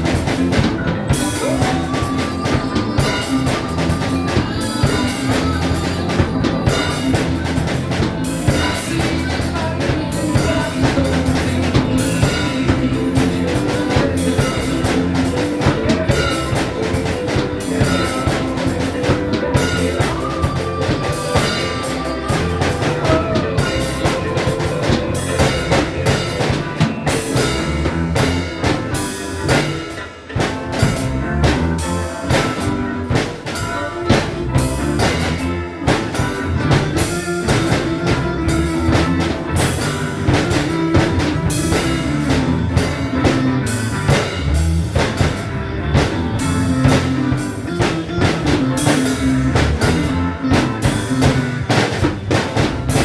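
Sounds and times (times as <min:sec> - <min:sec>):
drum kit playing: 0:00.0 - 0:53.0
rock music with bass and keyboard: 0:00.0 - 0:53.0.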